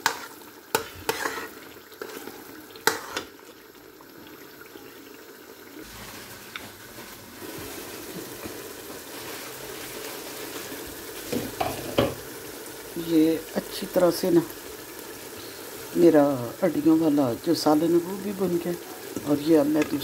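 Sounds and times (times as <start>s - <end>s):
chicken sizzling in a pot: 0.0s - 20.0s.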